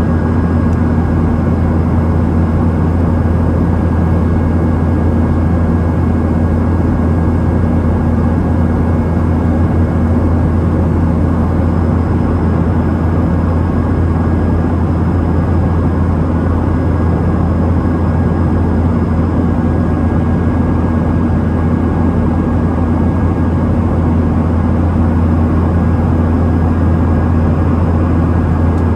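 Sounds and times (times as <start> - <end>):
aircraft cabin engine hum: 0.0 - 28.9.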